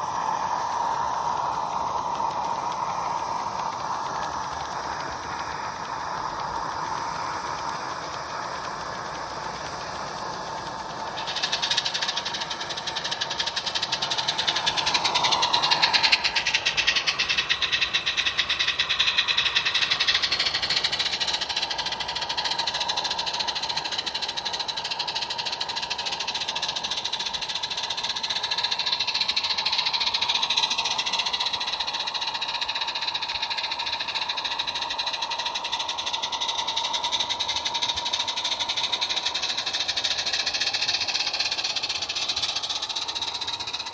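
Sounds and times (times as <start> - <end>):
model steam locomotive running: 0.0 - 43.9.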